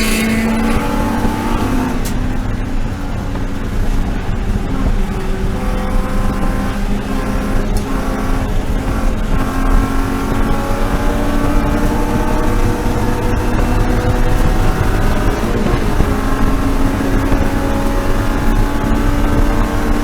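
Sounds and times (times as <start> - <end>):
race car engine running hard: 0.0 - 20.0.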